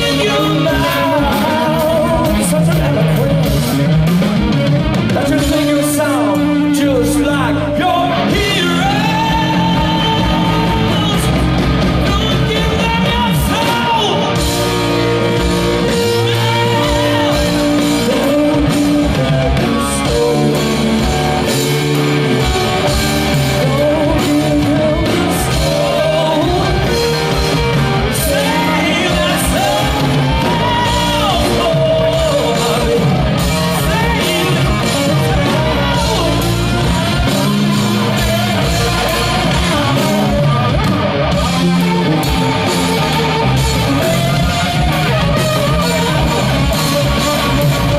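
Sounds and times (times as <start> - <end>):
wordless singing: 0.0 - 3.8, 5.2 - 40.7
electric guitar lead: 0.0 - 47.9
live rock band playing: 0.0 - 47.9.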